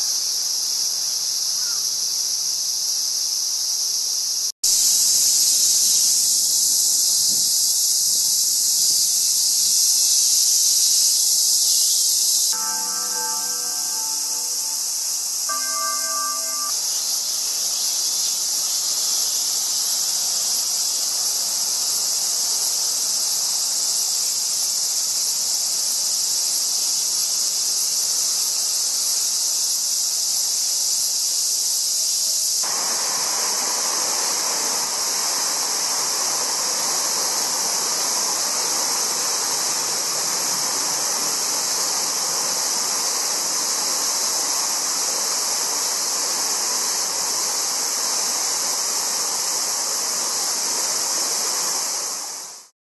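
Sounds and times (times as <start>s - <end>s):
insects buzzing: 0.0s - 52.7s.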